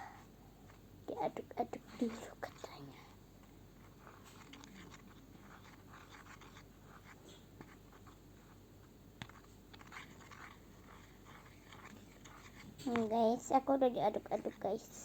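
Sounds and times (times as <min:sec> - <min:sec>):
glue being stirred in a bowl: 0:00.7 - 0:15.0.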